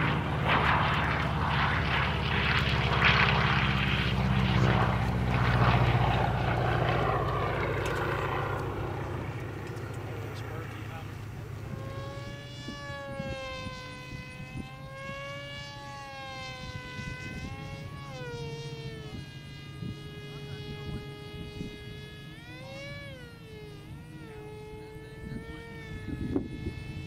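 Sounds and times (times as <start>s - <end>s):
propeller plane engine buzzing: 0.0s - 27.0s.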